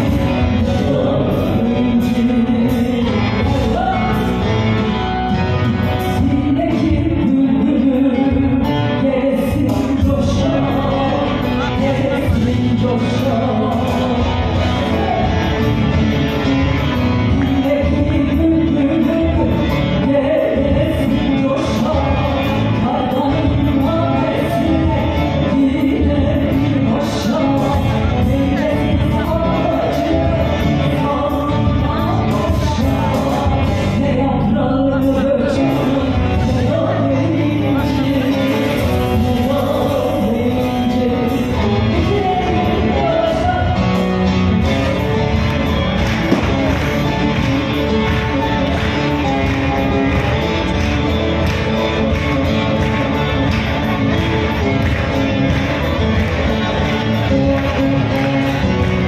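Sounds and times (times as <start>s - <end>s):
woman singing: 0.0s - 50.1s
steady bass: 0.0s - 59.0s.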